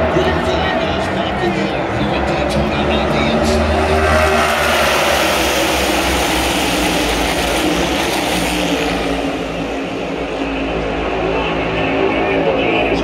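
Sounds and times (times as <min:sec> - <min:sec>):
race cars roaring past: 0:00.0 - 0:13.0.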